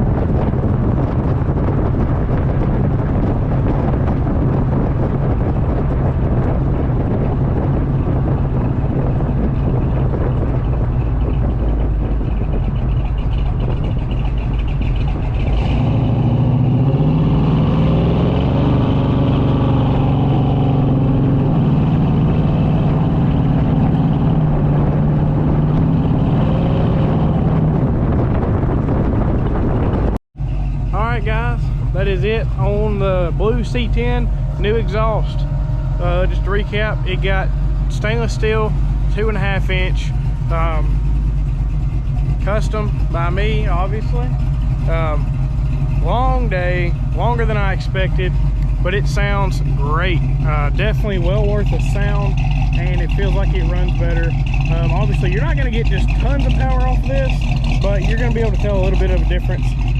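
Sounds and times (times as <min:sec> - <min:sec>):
pickup truck exhaust note: 0:00.0 - 0:59.9.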